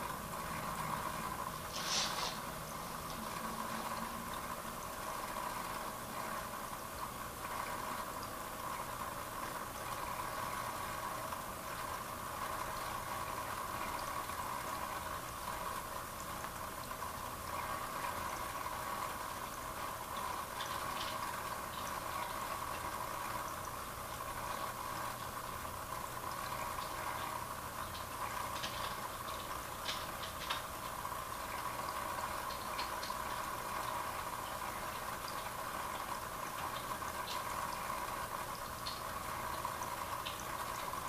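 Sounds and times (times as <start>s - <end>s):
aquarium water bubbling: 0.0s - 41.0s.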